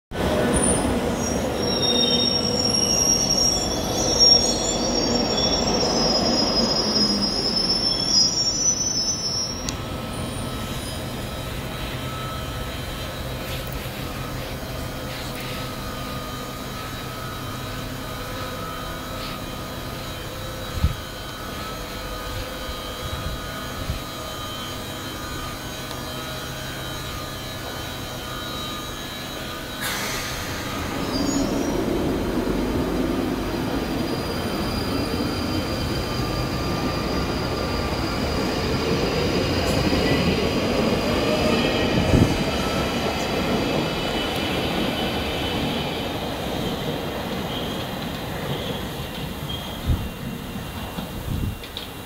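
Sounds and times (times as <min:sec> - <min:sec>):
train wheels and brakes squealing: 0:00.1 - 0:52.0.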